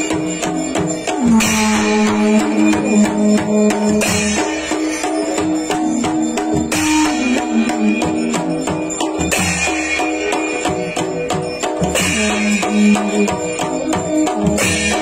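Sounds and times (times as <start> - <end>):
drums playing dance rhythm: 0.0 - 15.0
hand cymbals clashing: 0.0 - 15.0.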